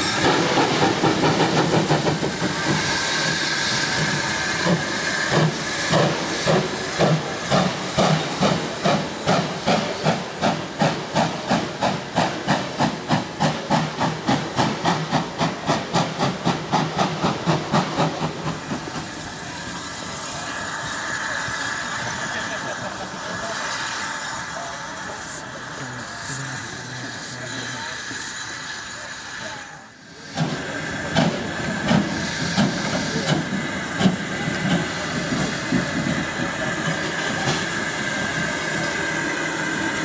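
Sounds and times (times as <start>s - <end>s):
steam hissing: 0.0s - 40.0s
steam locomotive exhaust chuffs: 0.0s - 40.0s.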